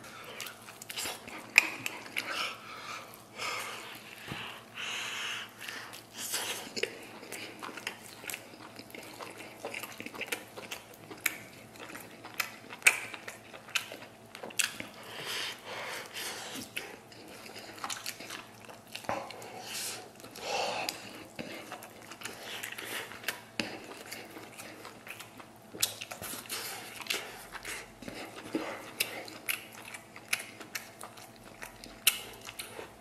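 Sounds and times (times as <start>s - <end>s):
man chewing and lip-smacking: 0.2s - 4.4s, 5.4s - 33.0s.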